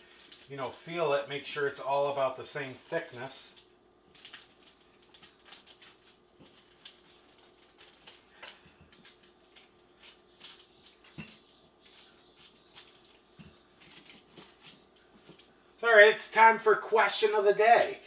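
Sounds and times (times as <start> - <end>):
paper crinkling: 0.0 - 15.7.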